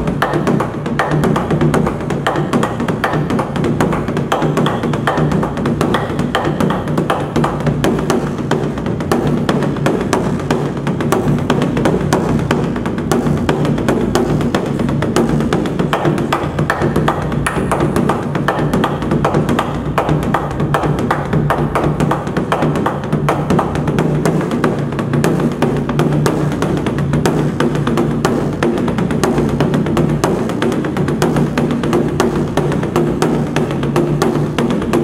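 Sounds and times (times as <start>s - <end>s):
large drum beaten fast: 0.0s - 35.0s.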